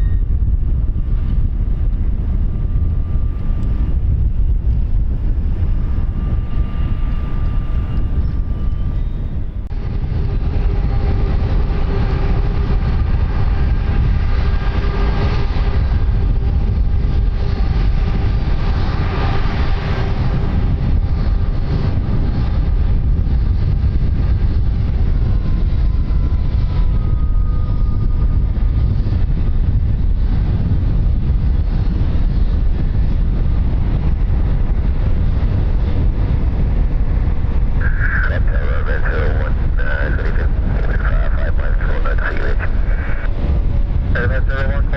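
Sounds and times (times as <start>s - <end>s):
aircraft engine rumble: 0.0s - 44.9s
steady engine tones: 0.0s - 44.9s.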